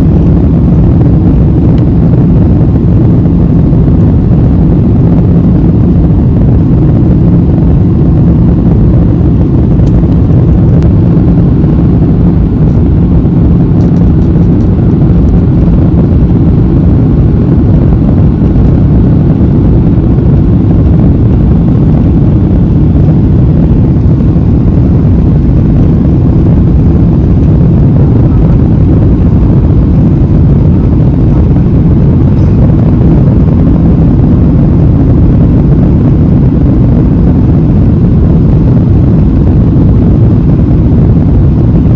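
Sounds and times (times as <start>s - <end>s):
airliner engine and airflow rumble: 0.0s - 41.9s
faint hum: 0.0s - 41.9s.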